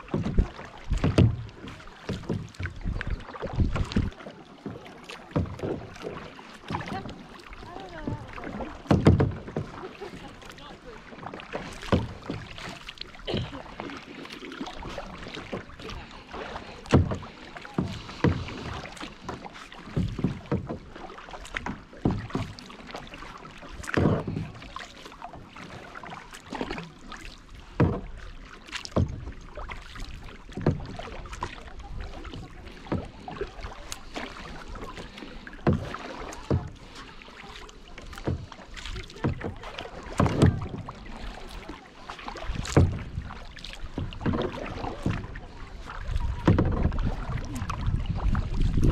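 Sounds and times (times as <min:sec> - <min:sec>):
paddle knocks: 0:00.0 - 0:48.9
paddle splashing in water: 0:00.0 - 0:48.9.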